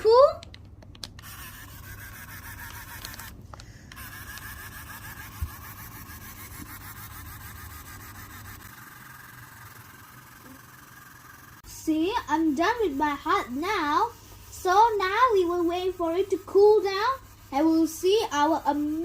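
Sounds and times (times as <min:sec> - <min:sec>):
pen motor whining: 0:00.0 - 0:19.0.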